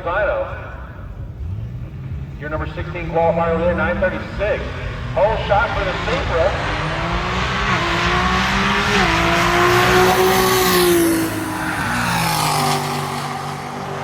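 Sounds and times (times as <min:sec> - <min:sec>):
drag racing cars accelerating: 0:00.0 - 0:14.0.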